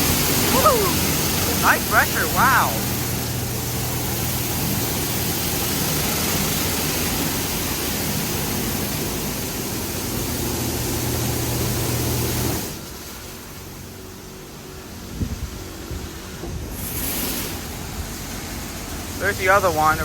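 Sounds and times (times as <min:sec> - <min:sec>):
high-pressure water spray hiss: 0:00.0 - 0:20.0
low pump hum: 0:00.0 - 0:20.0.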